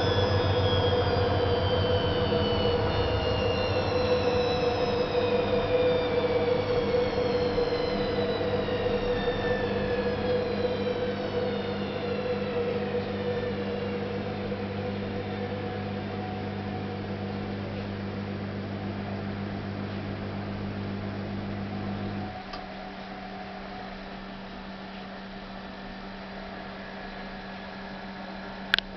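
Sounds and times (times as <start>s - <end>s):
steady low hum: 0.0s - 28.9s
washing machine drum whine: 0.0s - 28.9s.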